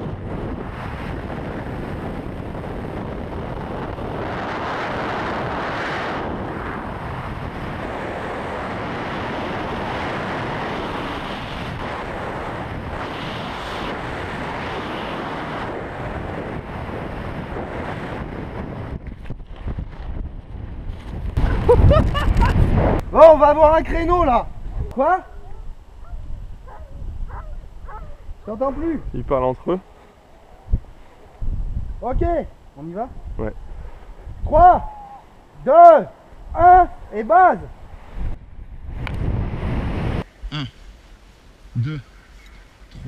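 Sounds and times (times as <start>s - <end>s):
wind roaring over microphone: 0.0s - 40.7s.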